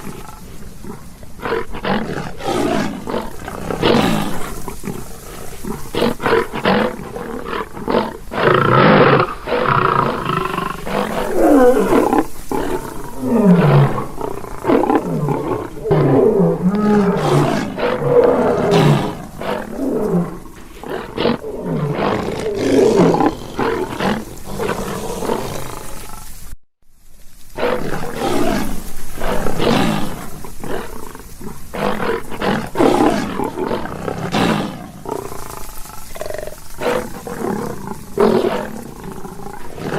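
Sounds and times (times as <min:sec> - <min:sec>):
lion roaring: 0:00.0 - 0:26.3, 0:27.6 - 0:39.9.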